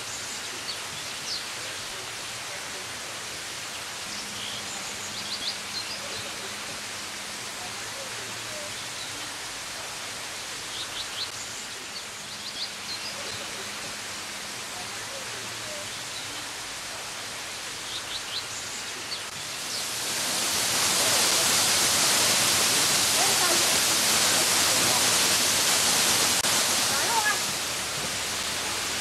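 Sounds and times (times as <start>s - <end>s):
rush of falling water: 0.0s - 29.0s
waterfall splashing down rock: 0.0s - 29.0s.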